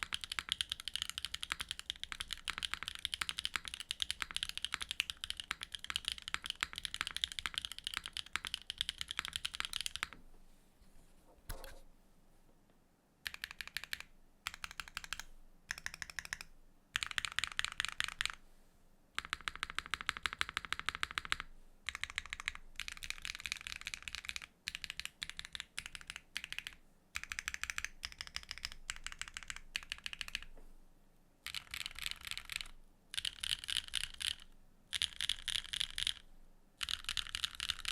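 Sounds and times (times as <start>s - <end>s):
mechanical keyboard typing: 0.0s - 10.2s, 13.2s - 18.4s, 19.2s - 30.5s, 31.4s - 36.2s, 36.8s - 37.9s.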